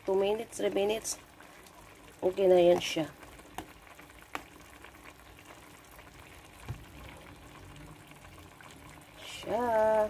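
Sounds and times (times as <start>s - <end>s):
sauce sizzling and bubbling: 0.0s - 10.0s.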